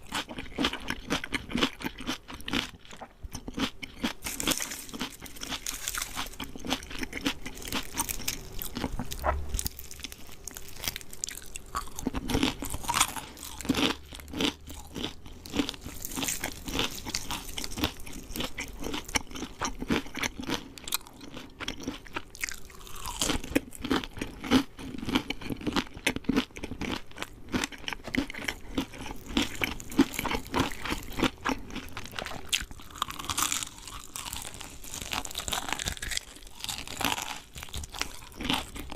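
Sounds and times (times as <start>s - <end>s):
crunchy bites and chewing: 0.0s - 38.9s.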